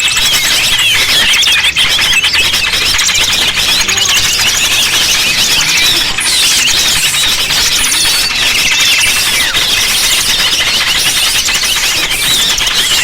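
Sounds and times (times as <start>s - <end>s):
small birds chirping and twittering: 0.0s - 13.0s.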